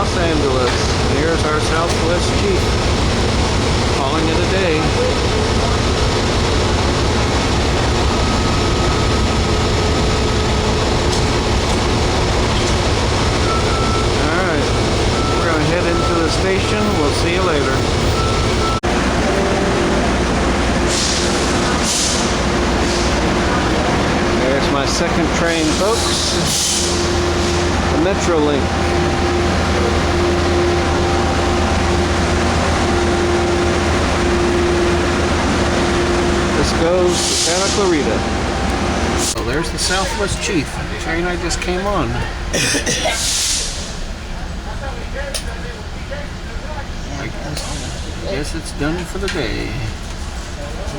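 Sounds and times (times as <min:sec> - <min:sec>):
diesel locomotives idling: 0:00.0 - 0:50.9.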